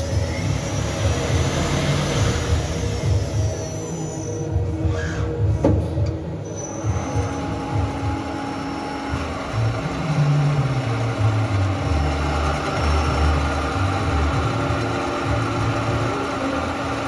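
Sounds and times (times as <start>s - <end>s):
lathe machine hum: 0.0s - 5.0s, 6.6s - 17.0s.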